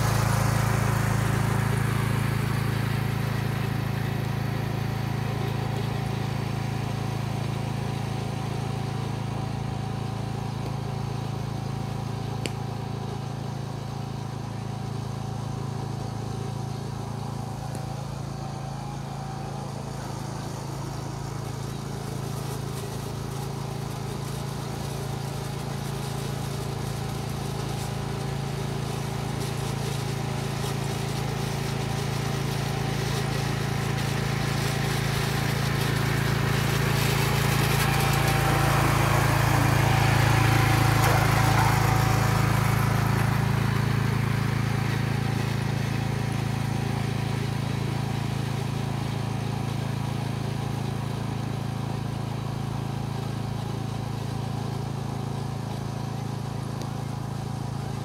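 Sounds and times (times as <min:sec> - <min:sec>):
reel lawn mower running: 0:00.0 - 0:58.0.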